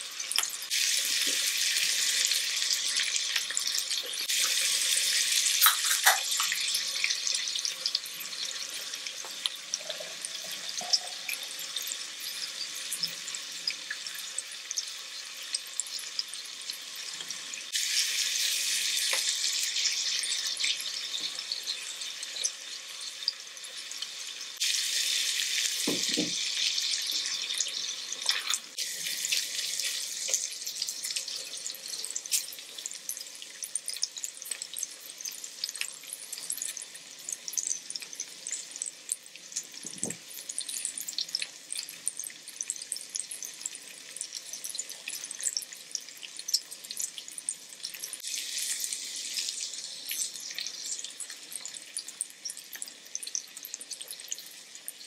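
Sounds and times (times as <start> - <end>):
steaks sizzling on a griddle: 0.0 - 55.0.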